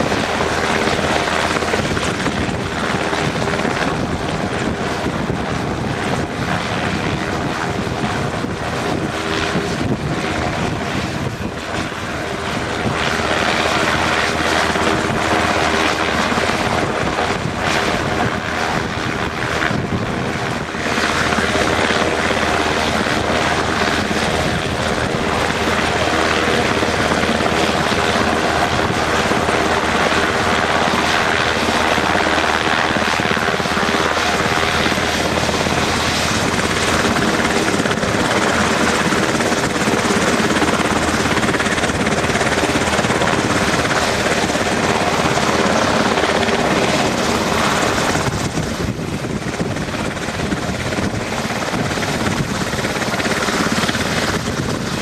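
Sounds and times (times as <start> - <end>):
helicopter engine and rotor roar: 0.0 - 55.0.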